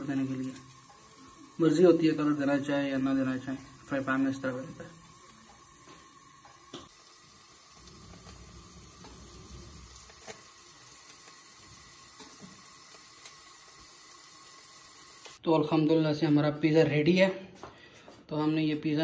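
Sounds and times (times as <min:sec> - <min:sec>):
gas burner flame hissing: 0:00.0 - 0:15.4.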